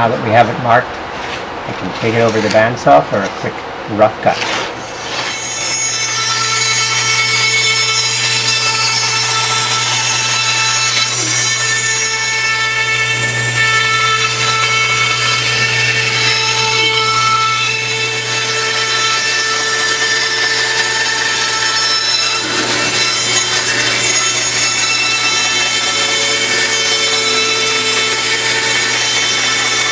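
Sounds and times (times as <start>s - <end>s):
saw blade cutting wood: 2.0s - 29.9s
bandsaw motor hum: 4.1s - 29.9s.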